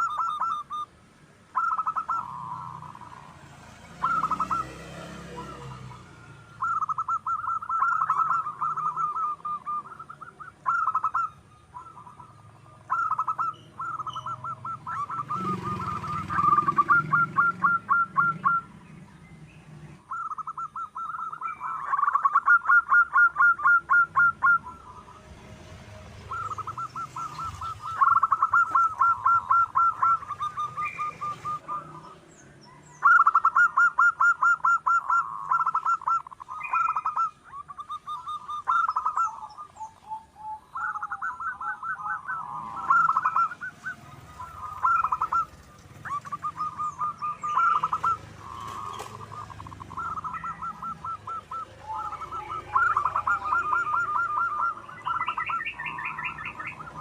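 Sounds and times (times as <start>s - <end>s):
faint high bird chirps: 0.0s - 25.4s, 26.0s - 57.0s
dove calling in staccato notes: 0.0s - 57.0s.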